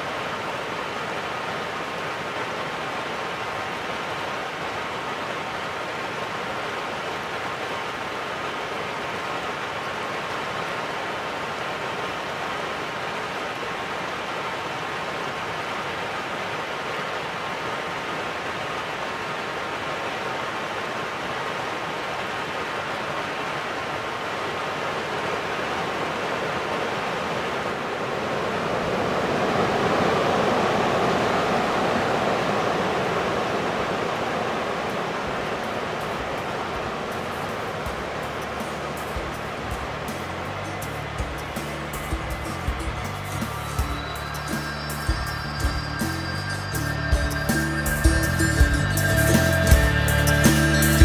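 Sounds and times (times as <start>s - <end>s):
fast-flowing river water: 0.0s - 51.0s.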